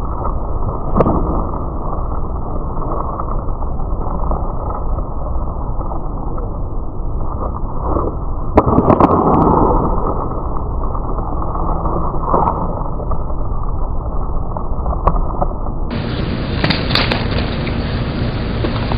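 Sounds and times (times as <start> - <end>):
skateboard clacking on asphalt: 0.0 - 17.9
steady rushing noise: 0.0 - 18.9.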